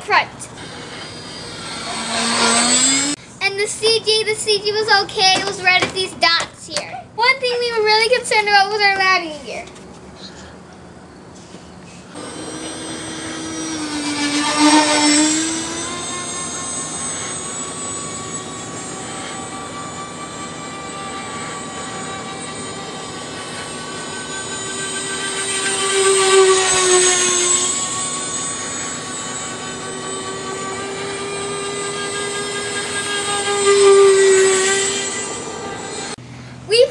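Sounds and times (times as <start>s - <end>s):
model jet fans whining: 0.0s - 36.9s.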